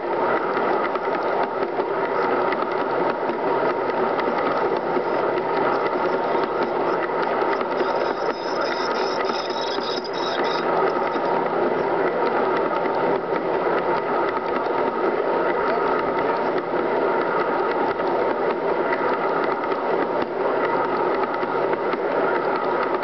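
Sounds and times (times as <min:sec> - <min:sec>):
faint steady whine: 0:00.0 - 0:23.0
model train wheels clattering: 0:00.3 - 0:23.0.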